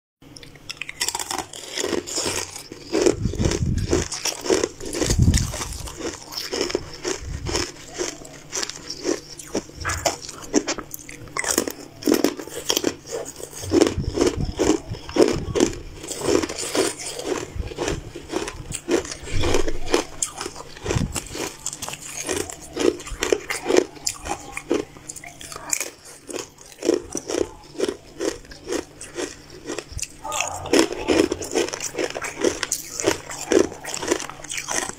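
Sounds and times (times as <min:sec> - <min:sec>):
crunching hard sweets: 0:00.2 - 0:34.9.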